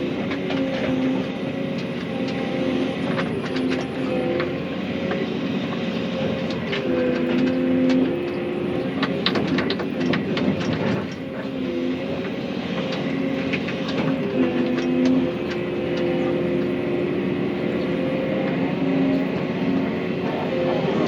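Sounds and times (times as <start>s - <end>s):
excavator engine and hydraulics: 0.0s - 21.0s.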